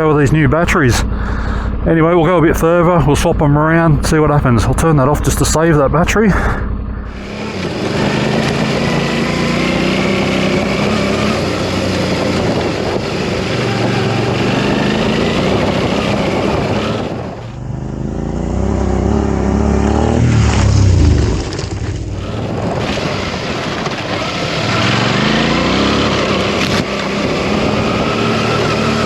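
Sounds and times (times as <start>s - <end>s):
motorcycle engine revving: 5.2s - 29.0s.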